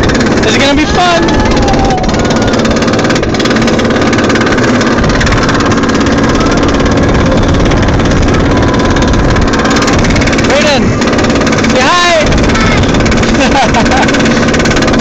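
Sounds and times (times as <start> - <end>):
amusement ride rumbling: 0.0 - 15.0.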